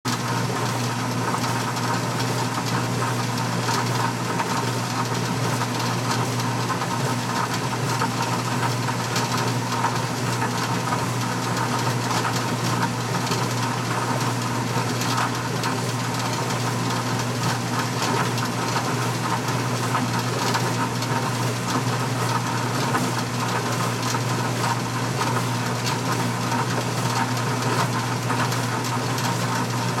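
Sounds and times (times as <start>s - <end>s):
washing machine motor hum: 0.1s - 30.0s.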